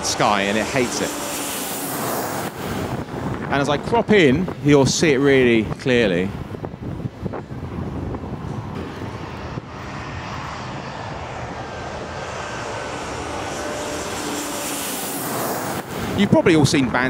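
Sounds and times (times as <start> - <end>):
airliner engines rushing: 0.0 - 17.0
faint engine whine: 0.0 - 17.0.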